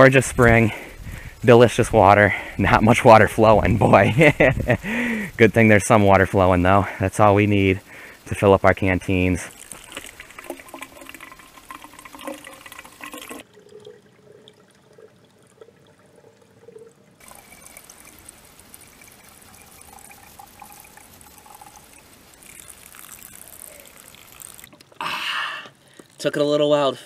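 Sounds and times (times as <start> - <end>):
water trickling into plastic bottle: 0.0 - 26.9.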